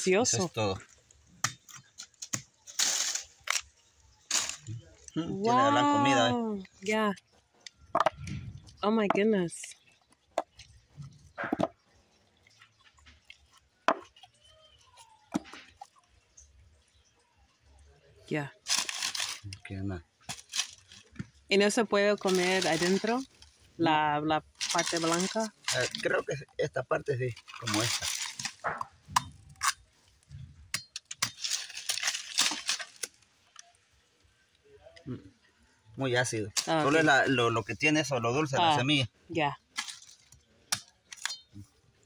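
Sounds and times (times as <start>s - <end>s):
crackling and scraping: 0.1s - 5.2s, 6.6s - 17.1s, 18.5s - 23.8s, 24.4s - 35.0s, 39.6s - 42.0s.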